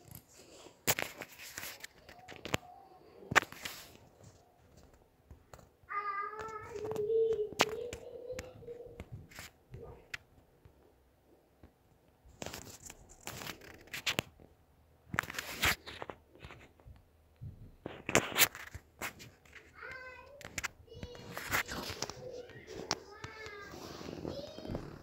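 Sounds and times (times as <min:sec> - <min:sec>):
rustling and crackling: 0:00.0 - 0:11.0, 0:11.6 - 0:25.0.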